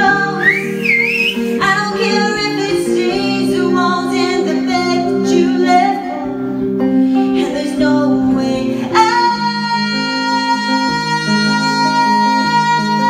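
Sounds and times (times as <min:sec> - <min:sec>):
woman singing: 0:00.0 - 0:00.8, 0:01.4 - 0:13.0
clean electric guitar: 0:00.0 - 0:13.0.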